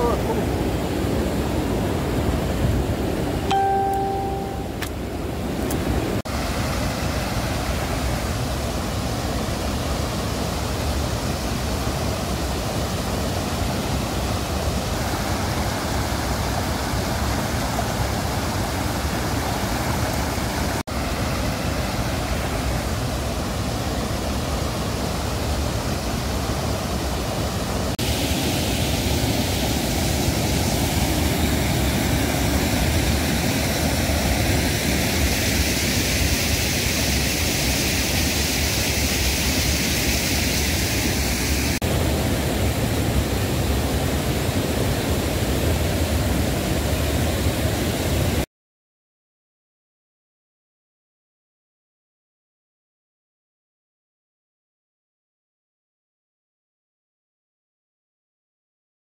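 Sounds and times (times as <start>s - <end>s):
water roaring over rapids: 0.0s - 48.4s.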